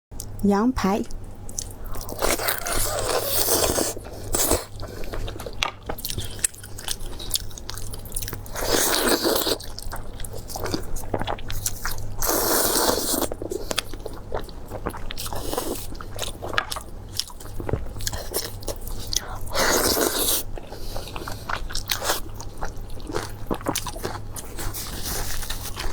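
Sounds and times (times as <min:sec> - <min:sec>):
crunchy chewing: 0:01.5 - 0:25.9.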